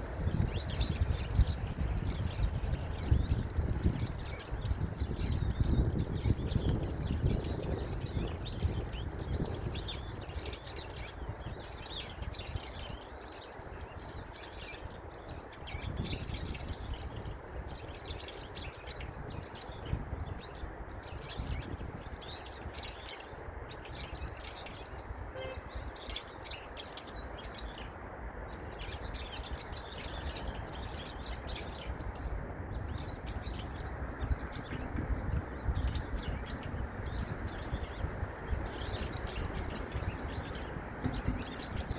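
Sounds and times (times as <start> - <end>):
small songbirds chirping: 0.0 - 41.9.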